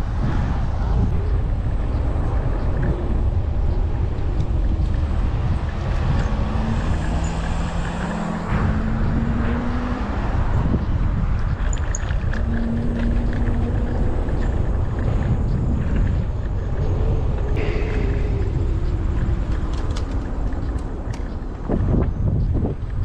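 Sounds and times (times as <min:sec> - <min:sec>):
low hums: 0:00.0 - 0:23.0
scooter tyre noise: 0:00.0 - 0:23.0
wind rushing over microphone: 0:00.0 - 0:23.0.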